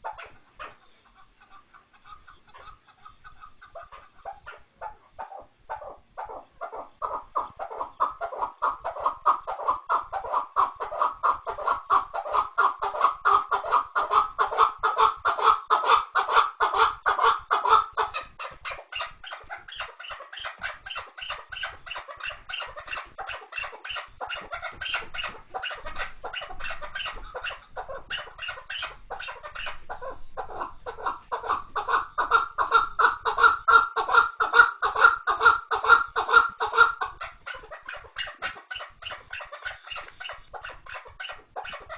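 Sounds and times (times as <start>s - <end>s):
partridge clucking call: 0.0s - 41.9s.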